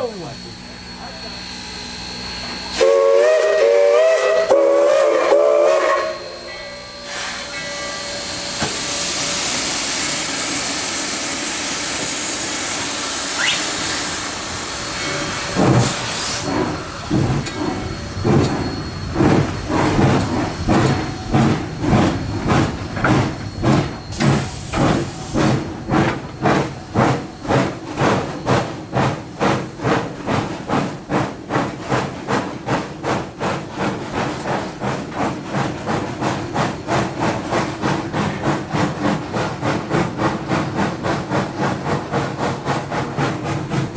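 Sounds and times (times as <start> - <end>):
steam hissing: 0.0 - 43.9
steam locomotive exhaust chuffs: 0.0 - 43.9.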